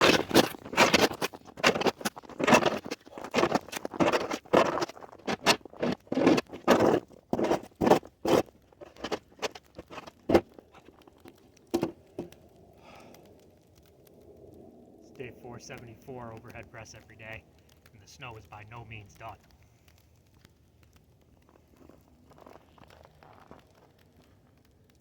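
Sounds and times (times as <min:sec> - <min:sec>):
crunches and scrapes: 0:00.0 - 0:14.2, 0:15.1 - 0:25.0.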